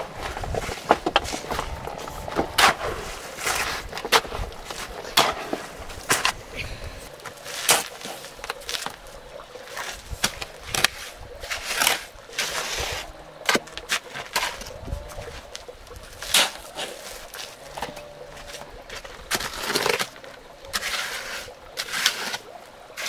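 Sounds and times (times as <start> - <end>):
hoe scraping wet mortar: 0.0 - 23.0.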